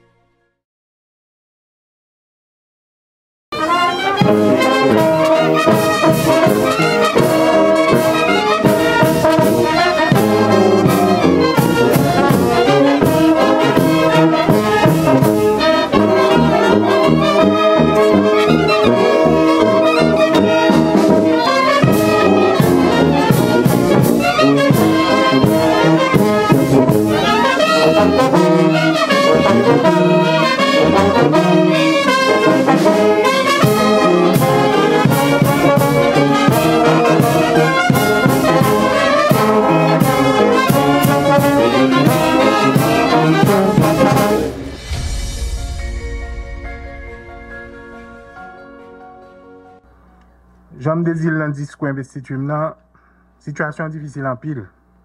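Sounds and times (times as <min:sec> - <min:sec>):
brass band playing: 0:03.5 - 0:50.2.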